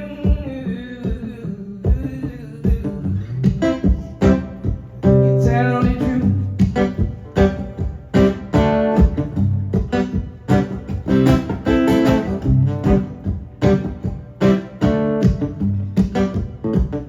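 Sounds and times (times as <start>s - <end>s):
guitar strumming: 0.0s - 17.0s
low bass notes: 3.1s - 17.0s.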